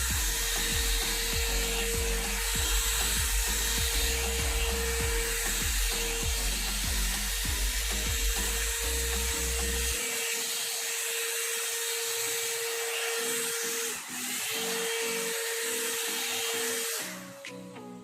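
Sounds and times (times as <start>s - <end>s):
hair dryer running: 0.0s - 17.6s.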